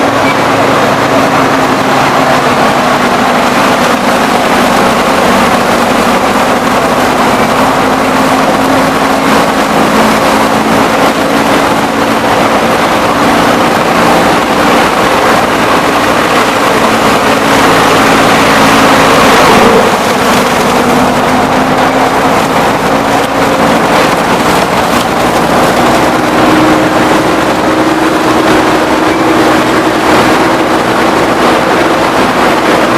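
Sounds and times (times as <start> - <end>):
crushing mill machine din: 0.0 - 32.9.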